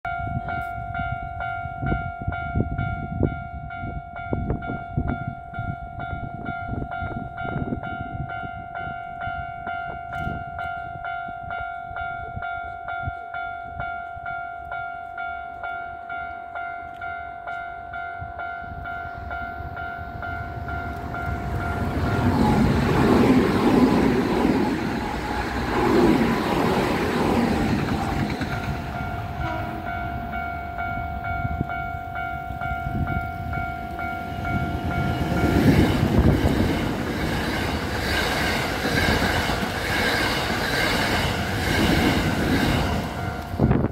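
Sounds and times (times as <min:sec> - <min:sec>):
level-crossing warning bell ringing: 0:00.0 - 0:43.9
electric train approaching: 0:00.1 - 0:43.9.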